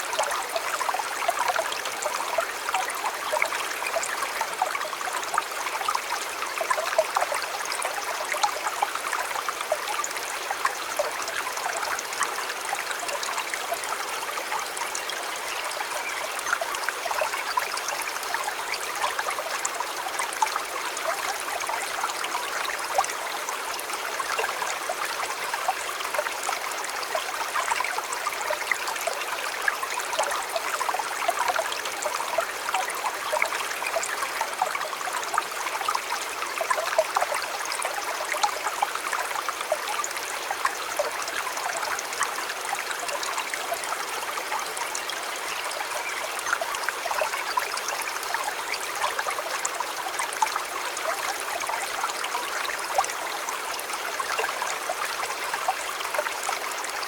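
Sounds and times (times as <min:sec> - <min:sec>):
shallow stream babbling: 0:00.0 - 0:57.0.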